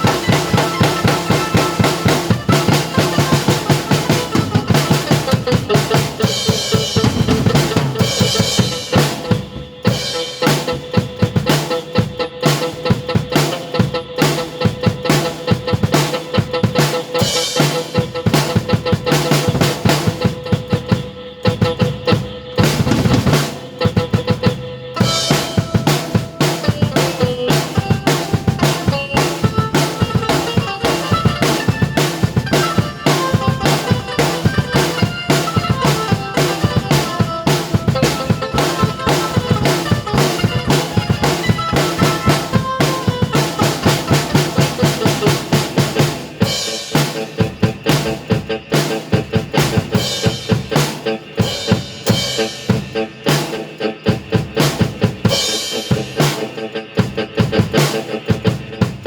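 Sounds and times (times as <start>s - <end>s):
keyboard melody: 0.0s - 47.8s
drum kit played fast: 0.0s - 59.0s.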